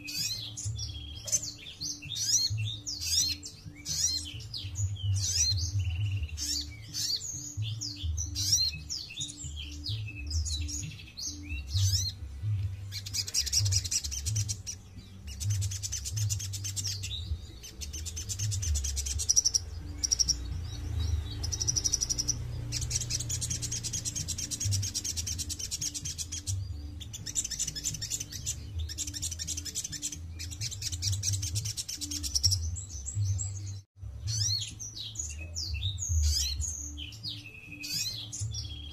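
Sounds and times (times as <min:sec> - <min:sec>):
bird trilling and chirping: 0:00.0 - 0:38.9.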